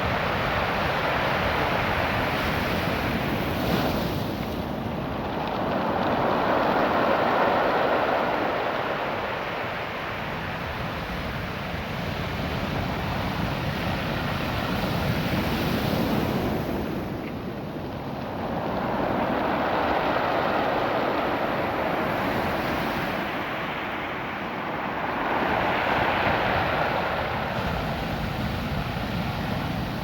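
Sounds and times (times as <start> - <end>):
ocean surf on pebble beach: 0.0 - 30.0.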